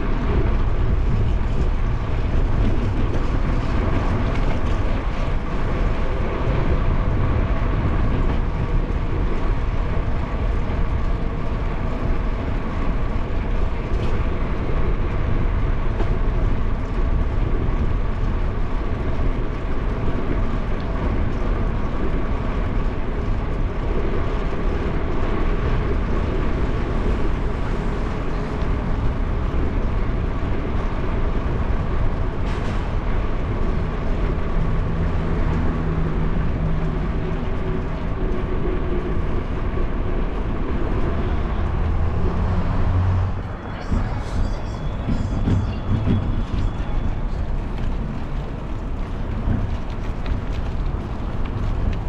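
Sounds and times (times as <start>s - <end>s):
bicycle tyres rolling on pavement: 0.0s - 52.0s
wind rush on microphone: 0.0s - 52.0s.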